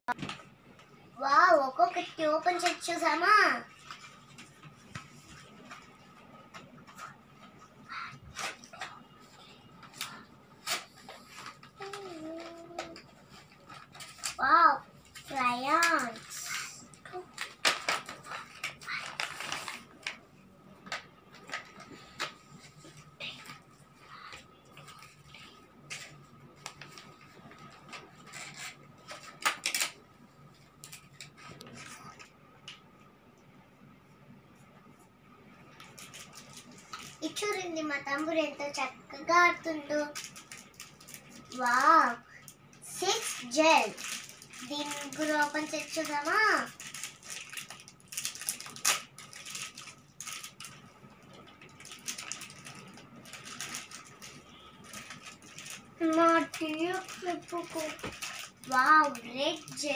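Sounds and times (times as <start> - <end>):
plastic wrappers crinkling: 1.9 - 20.2, 20.8 - 30.1, 35.8 - 59.9.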